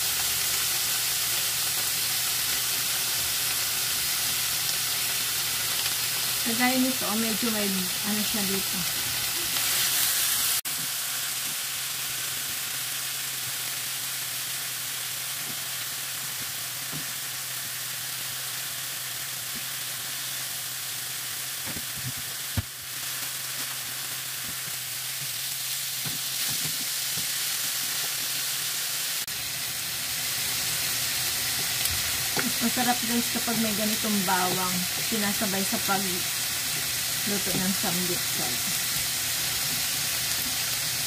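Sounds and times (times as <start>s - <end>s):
pork sizzling in frying pan: 0.0s - 41.0s.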